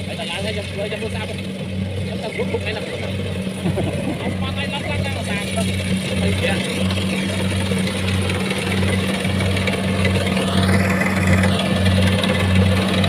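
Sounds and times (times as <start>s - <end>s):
combine harvester engine humming: 0.0s - 13.0s
machinery clatter: 0.0s - 13.0s.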